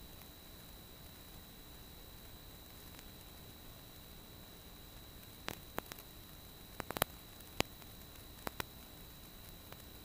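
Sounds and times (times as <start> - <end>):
recording static hiss: 0.0 - 10.0
sharp clicks and crackles: 0.0 - 10.0
thin high whine: 0.0 - 10.0.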